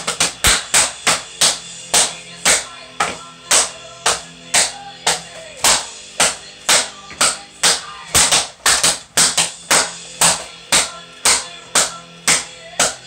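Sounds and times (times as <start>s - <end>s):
cardboard rolls struck as percussion: 0.0s - 13.0s.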